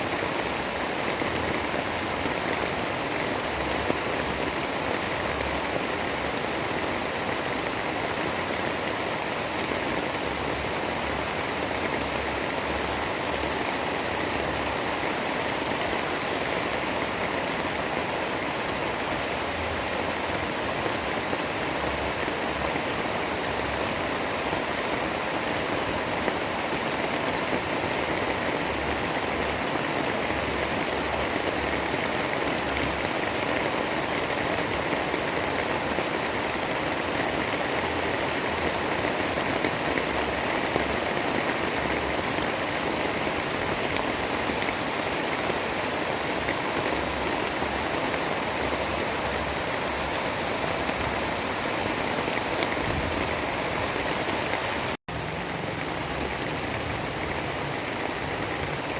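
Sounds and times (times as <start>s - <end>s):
wind-driven rain hiss: 0.0s - 58.9s.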